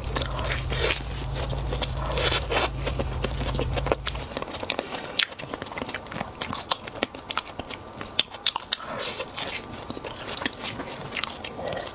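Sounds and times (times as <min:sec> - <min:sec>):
person chewing crunchy food: 0:00.0 - 0:11.9.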